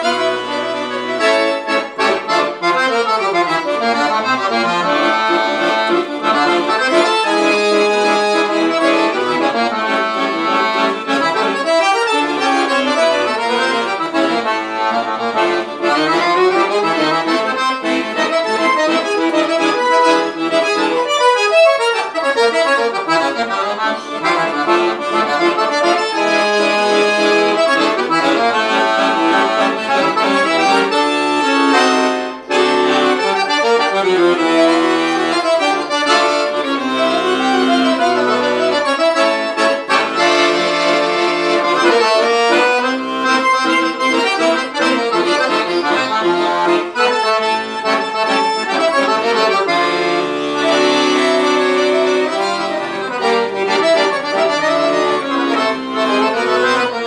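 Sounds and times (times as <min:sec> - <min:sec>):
accordion melody: 0:00.0 - 0:57.0.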